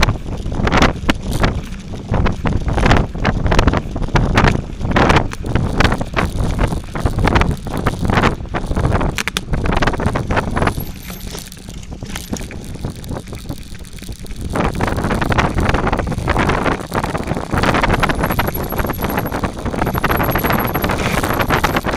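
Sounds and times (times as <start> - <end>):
bicycle rattling over bumps: 0.0 - 21.9
bicycle tyres on dirt trail: 0.0 - 21.9
wind buffeting microphone: 0.0 - 21.9.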